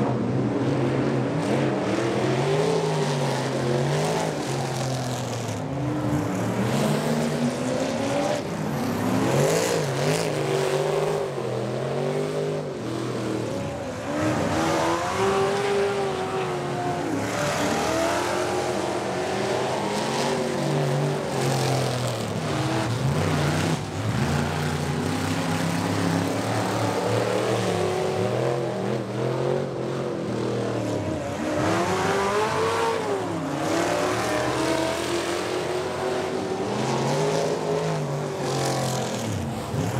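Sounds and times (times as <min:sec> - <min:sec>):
racing truck engines: 0:00.0 - 0:39.9.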